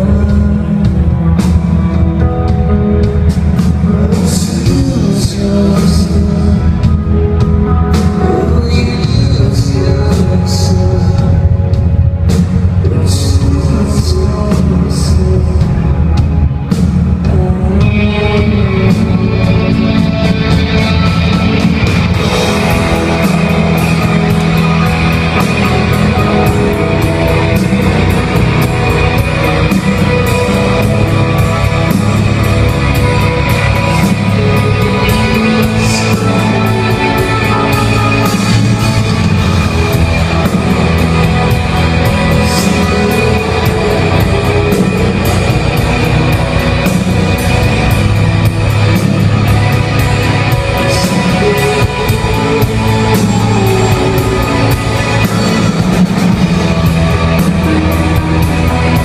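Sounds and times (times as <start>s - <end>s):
distorted electric guitar: 0.0s - 59.0s
drums: 0.0s - 59.0s.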